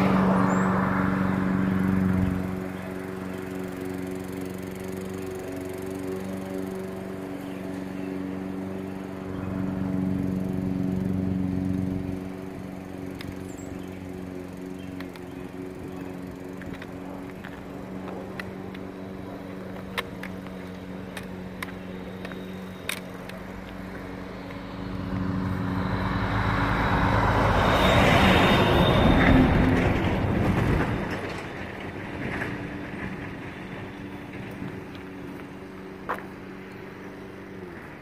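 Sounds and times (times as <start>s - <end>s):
small engine drone: 0.0s - 38.0s
vehicle passing: 0.0s - 38.0s.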